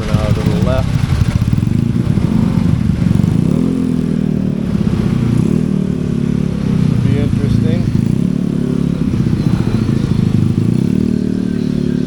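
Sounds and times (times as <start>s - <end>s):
motorcycle engine at low speed: 0.0s - 12.0s.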